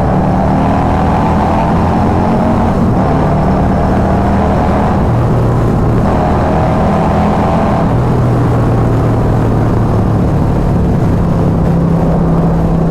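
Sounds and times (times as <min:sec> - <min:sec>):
motorcycle engine running: 0:00.0 - 0:12.9
rushing wind: 0:00.0 - 0:12.9.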